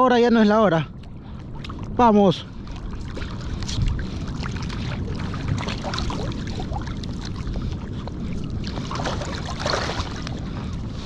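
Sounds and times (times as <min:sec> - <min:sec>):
low rumble: 0:00.0 - 0:11.0
sea water sloshing and splashing: 0:00.9 - 0:11.0.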